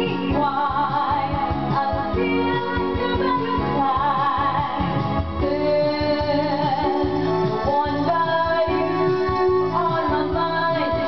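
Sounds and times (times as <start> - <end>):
keyboard and beat backing track: 0.0 - 11.0
woman singing ballad: 0.0 - 11.0.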